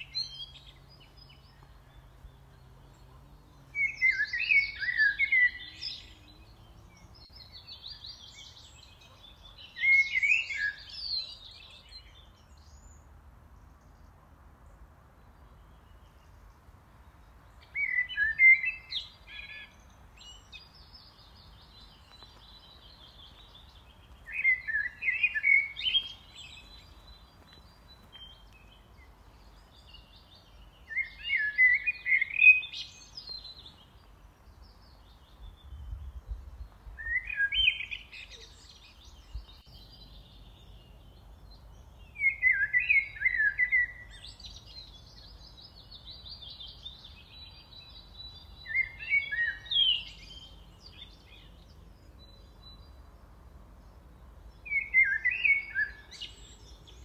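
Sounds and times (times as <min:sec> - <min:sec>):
songbird singing a short phrase: 0:00.0 - 0:57.0.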